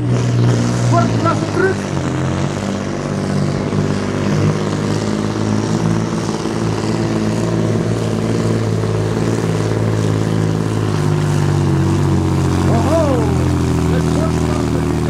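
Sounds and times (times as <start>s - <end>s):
truck diesel engine under load: 0.0s - 15.0s.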